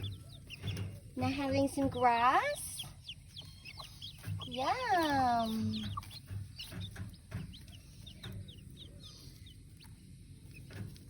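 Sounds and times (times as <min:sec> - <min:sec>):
hen clucking softly: 0:00.0 - 0:01.8, 0:02.6 - 0:11.0
chicks cheeping: 0:00.0 - 0:11.0.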